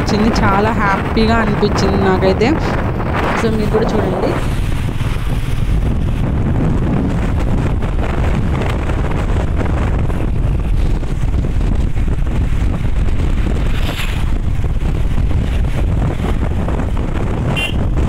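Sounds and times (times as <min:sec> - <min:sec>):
vehicle rumbling on road: 0:00.0 - 0:18.0
wind buffeting microphone: 0:00.0 - 0:18.0.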